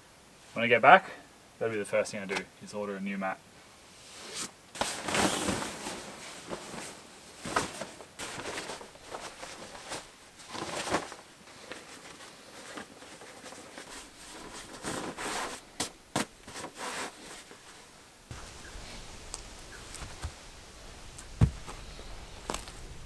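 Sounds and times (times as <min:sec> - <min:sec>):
fabric rustling and swishing: 0:04.0 - 0:22.8.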